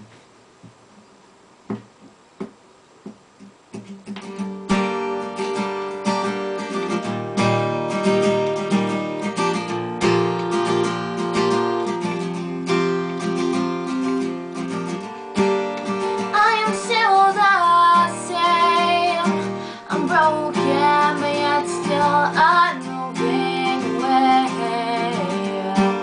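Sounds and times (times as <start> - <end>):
acoustic guitar strumming chords: 1.7 - 26.0.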